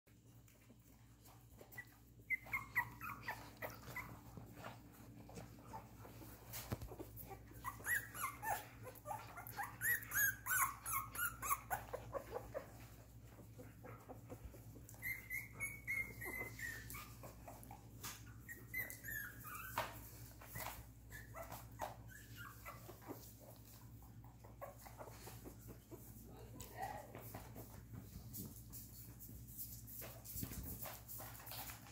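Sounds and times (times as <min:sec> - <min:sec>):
puppies whimpering and squeaking: 0:00.2 - 0:31.9.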